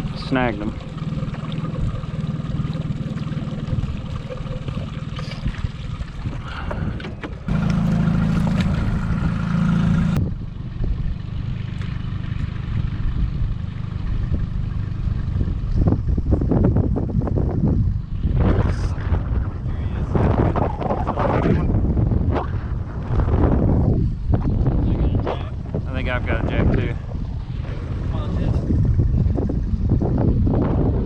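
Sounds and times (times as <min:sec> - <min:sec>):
boat motor humming: 0:00.0 - 0:31.0
water and wind noise: 0:00.0 - 0:31.0.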